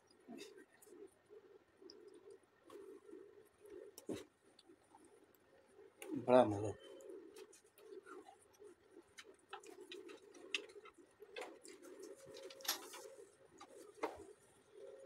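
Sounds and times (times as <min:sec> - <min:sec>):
low wavering background sound: 0:00.0 - 0:15.0
food being chewed: 0:01.8 - 0:06.1, 0:07.0 - 0:15.0.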